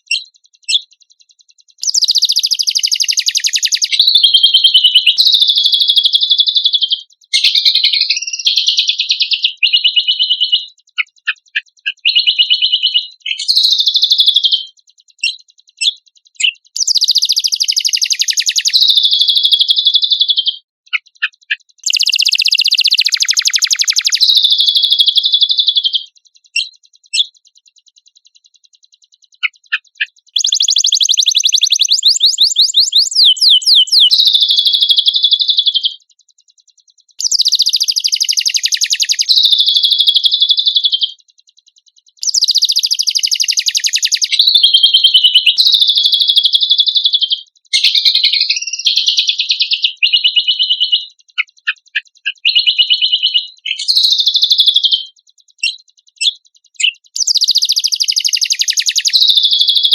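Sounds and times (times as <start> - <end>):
bird trilling song: 0.0 - 59.9
sharp bird chips: 0.0 - 59.9.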